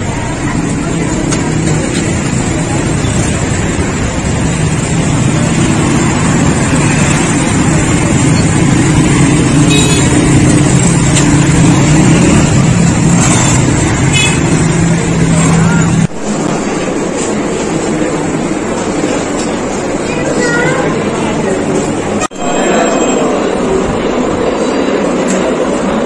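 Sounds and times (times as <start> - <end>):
vehicle engines humming: 0.0 - 26.0.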